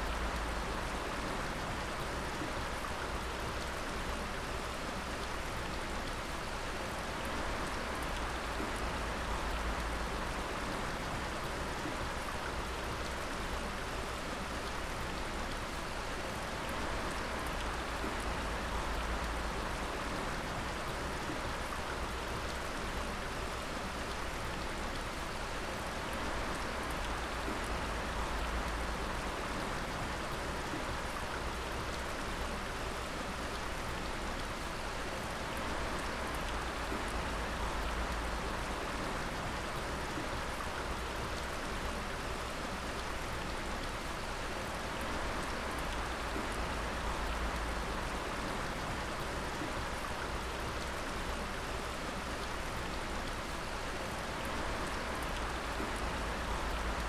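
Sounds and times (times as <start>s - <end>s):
water dripping and splashing: 0.1s - 57.0s.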